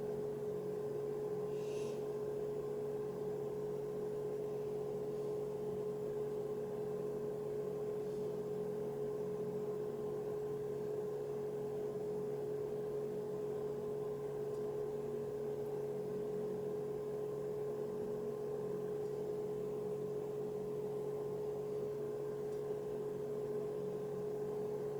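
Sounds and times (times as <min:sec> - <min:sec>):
steady hum with mid-pitched tone: 0:00.0 - 0:24.9.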